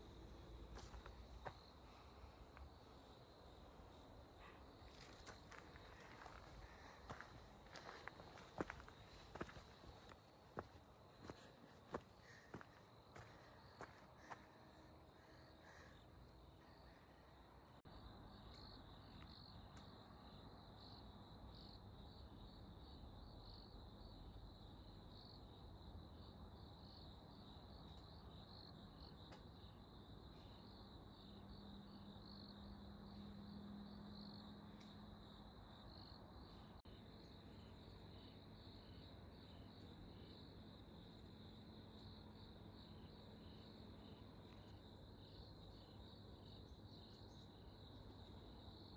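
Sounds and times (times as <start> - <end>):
insects chirping faintly: 0.0 - 48.9.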